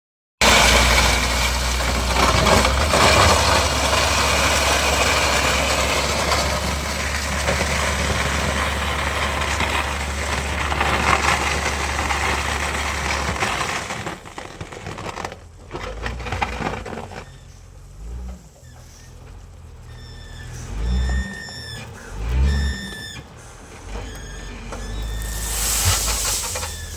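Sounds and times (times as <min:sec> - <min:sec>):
construction machine engine hum: 0:00.4 - 0:26.9
crunching and scraping: 0:00.4 - 0:26.9.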